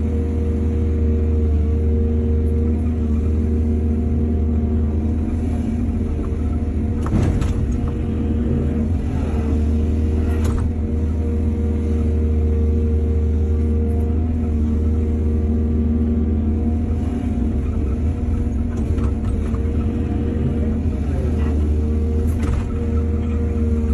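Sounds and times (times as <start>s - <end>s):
excavator engine running: 0.0s - 23.9s.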